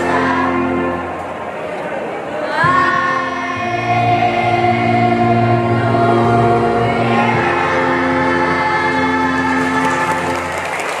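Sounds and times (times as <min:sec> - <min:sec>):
children's choir sustained chord: 0:00.0 - 0:01.5, 0:02.2 - 0:11.0.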